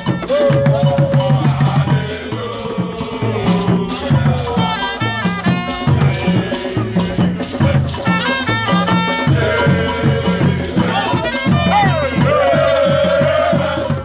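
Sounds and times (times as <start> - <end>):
bass beat: 0.0 - 14.0
percussion: 0.0 - 14.0
voices singing: 0.0 - 14.0.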